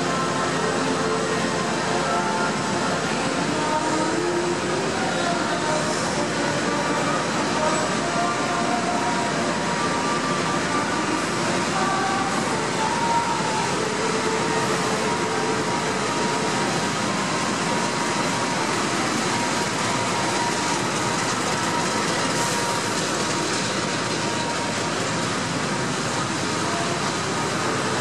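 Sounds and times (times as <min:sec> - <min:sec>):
diesel locomotive engine: 0:00.0 - 0:28.0
train carriages rolling past: 0:00.0 - 0:28.0.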